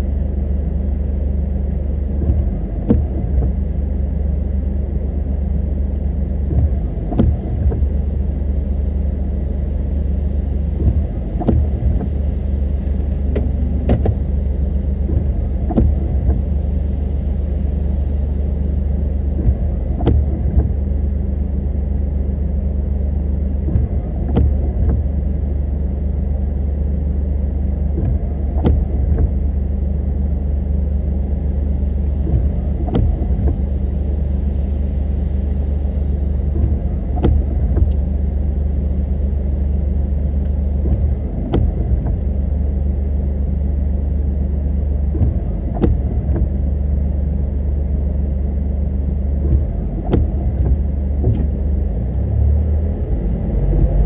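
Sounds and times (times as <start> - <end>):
car driving rumble from inside: 0.0 - 54.0.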